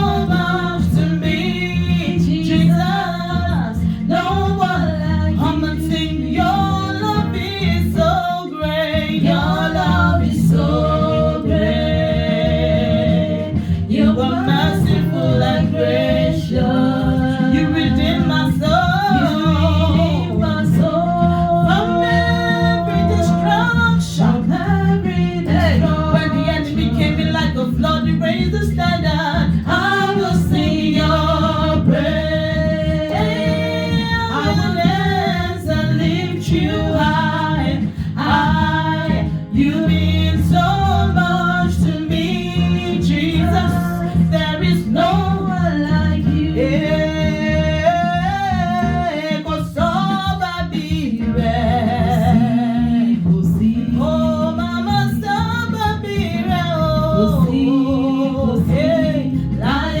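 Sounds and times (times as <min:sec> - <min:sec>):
instrumental backing: 0:00.0 - 1:00.0.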